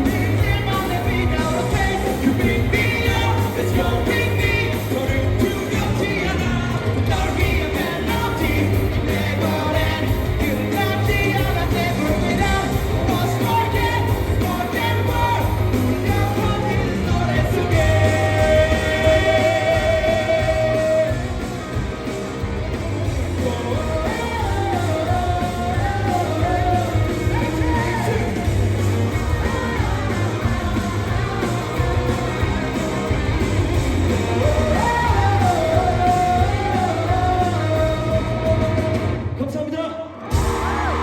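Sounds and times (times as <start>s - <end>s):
person singing: 0.0s - 21.4s, 22.7s - 39.2s
live pop-rock band: 0.0s - 41.0s.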